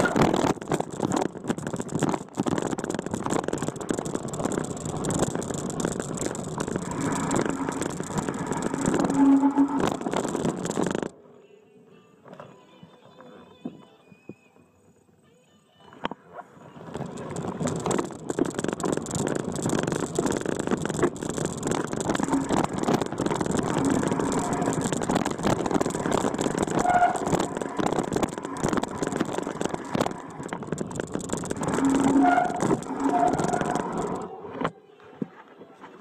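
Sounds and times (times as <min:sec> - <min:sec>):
vehicle rattling and knocking: 0:00.0 - 0:11.1, 0:16.9 - 0:34.7
vehicle engine under load: 0:00.0 - 0:11.2, 0:16.6 - 0:34.8.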